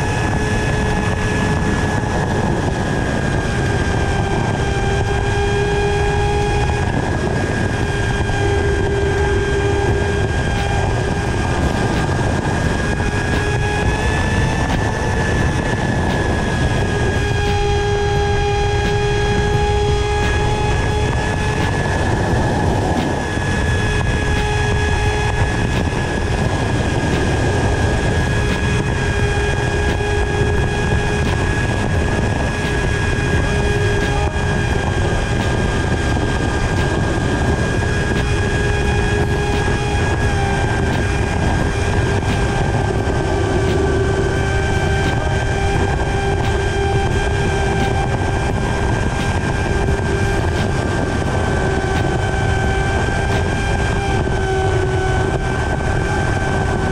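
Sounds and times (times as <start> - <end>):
drone motors whining: 0.0 - 56.9
wind rumble on microphone: 0.0 - 56.9.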